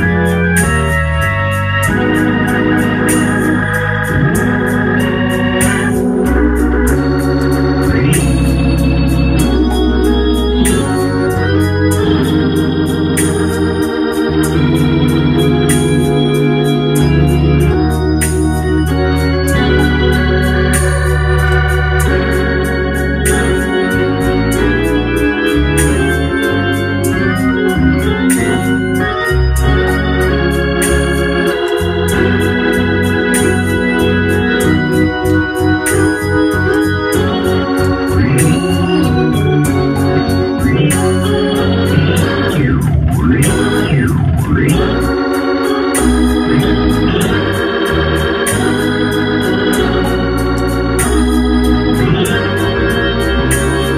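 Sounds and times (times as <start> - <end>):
organ playing gospel chords: 0.0 - 53.9.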